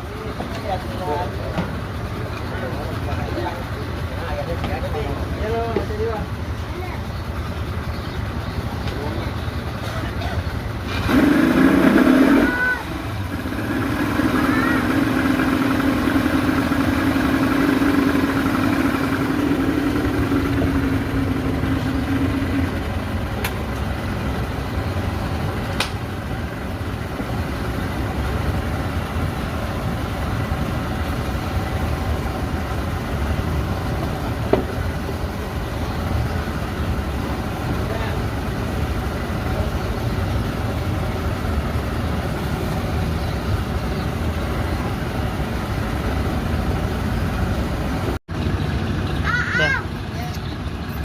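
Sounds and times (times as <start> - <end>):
speedboat engine rumbling: 0.0 - 51.0.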